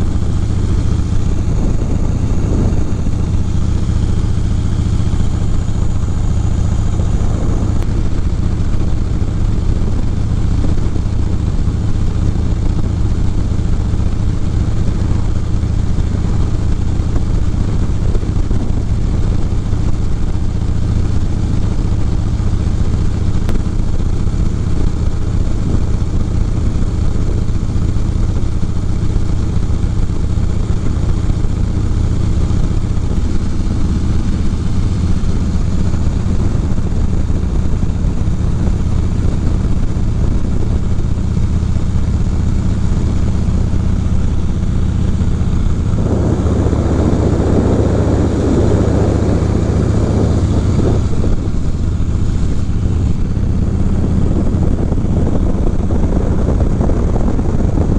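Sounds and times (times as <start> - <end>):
motorcycle engine cruising: 0.0 - 57.9
wind and road noise: 0.0 - 57.9.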